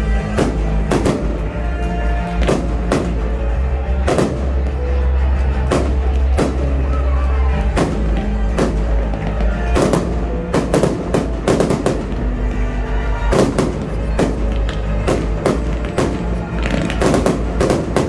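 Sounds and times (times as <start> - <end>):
fireworks bursting with sharp bangs: 0.0 - 7.0, 7.6 - 18.0
show music: 0.0 - 18.0.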